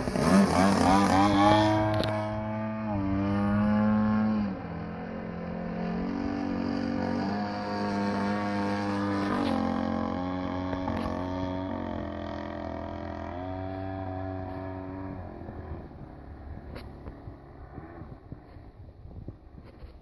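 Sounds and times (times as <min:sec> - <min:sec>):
model plane engine droning: 0:00.0 - 0:20.0.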